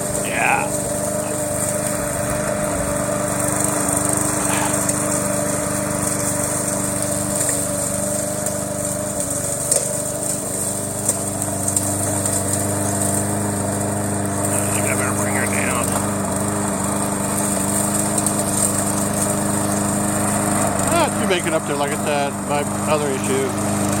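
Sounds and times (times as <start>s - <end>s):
lawn mower humming: 0.0s - 24.0s.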